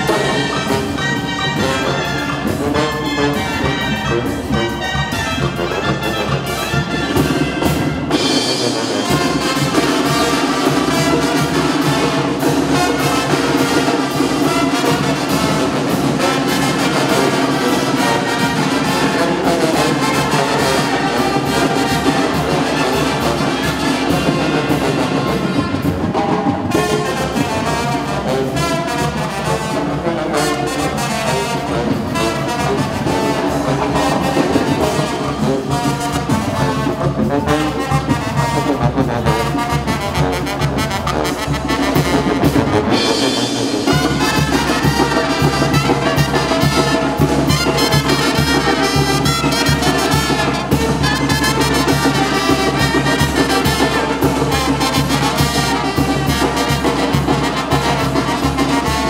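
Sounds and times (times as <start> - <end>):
brass band playing: 0.0 - 59.0.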